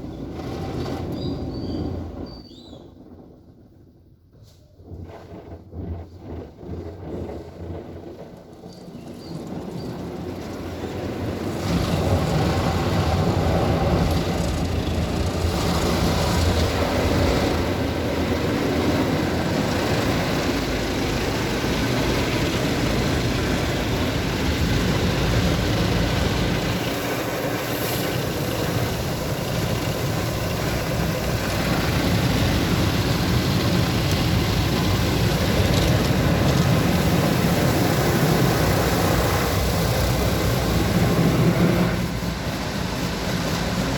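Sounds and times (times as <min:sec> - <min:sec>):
car wash machine rushing: 0:00.0 - 0:02.2, 0:05.3 - 0:43.9.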